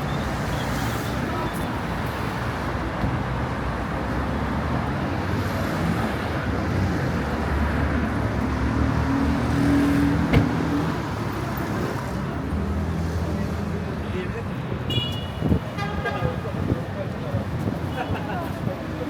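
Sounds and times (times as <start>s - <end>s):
rumble of road traffic: 0.0s - 19.0s.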